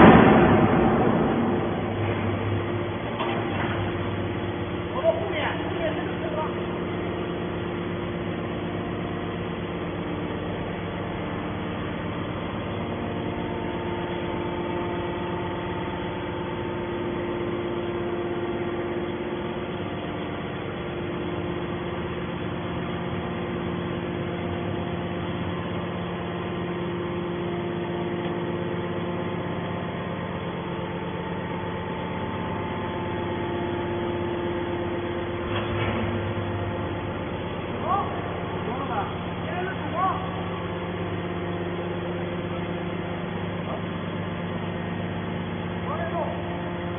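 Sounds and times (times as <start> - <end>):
hydraulic power unit droning: 0.0 - 46.9.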